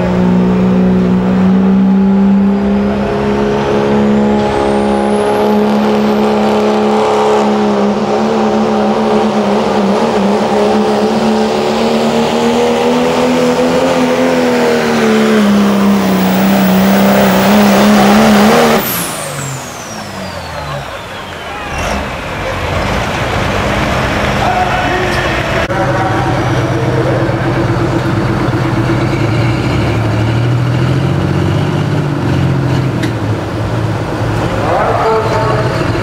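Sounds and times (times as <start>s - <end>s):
diesel engine at full throttle: 0.0s - 36.0s.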